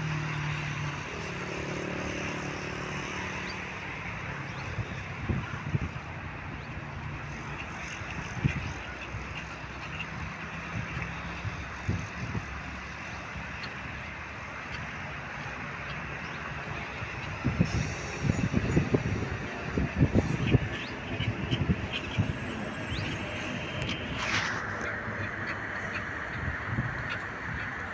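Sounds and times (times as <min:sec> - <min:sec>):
steady outdoor noise: 0:00.0 - 0:27.9
wind buffeting microphone: 0:00.4 - 0:09.4, 0:10.2 - 0:27.9.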